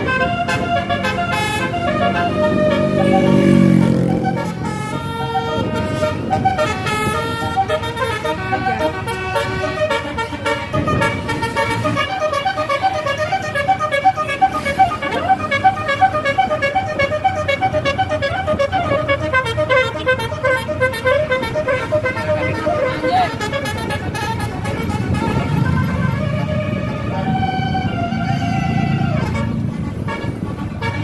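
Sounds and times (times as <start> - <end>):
musical air horns tooting: 0.0 - 31.0.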